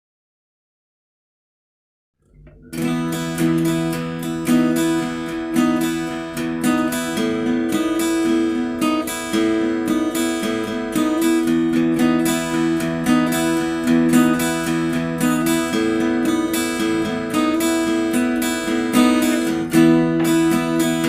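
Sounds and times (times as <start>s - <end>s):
acoustic guitar strumming chords: 2.4s - 21.0s.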